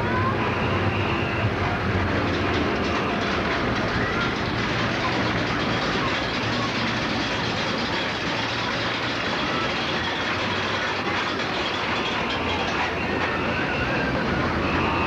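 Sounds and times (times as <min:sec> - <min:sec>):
moving vehicle rumbling: 0:00.0 - 0:15.0.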